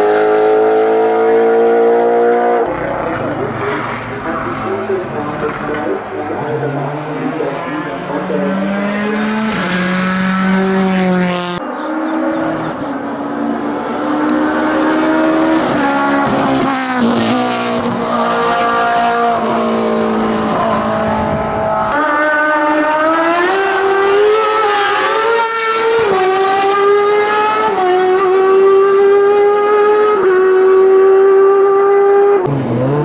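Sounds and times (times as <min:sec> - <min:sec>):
racing car engines accelerating: 0:00.0 - 0:33.0.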